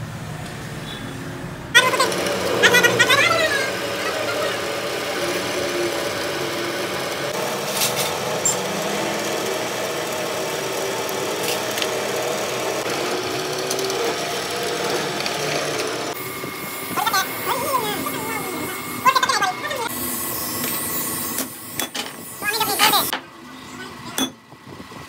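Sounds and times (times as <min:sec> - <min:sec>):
workshop machine running: 0:00.0 - 0:25.0.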